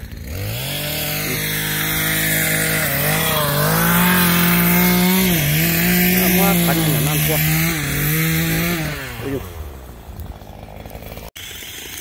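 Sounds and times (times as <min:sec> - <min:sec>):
chainsaw cutting a log: 0:00.0 - 0:12.0.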